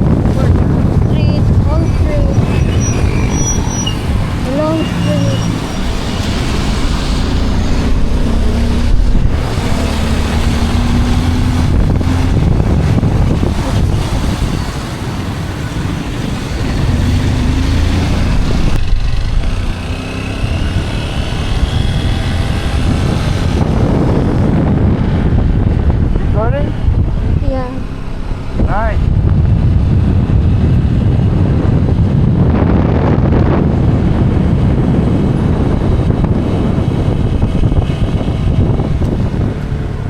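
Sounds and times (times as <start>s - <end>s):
motorcycle engine: 0.0s - 40.0s
wind buffeting microphone: 0.0s - 40.0s.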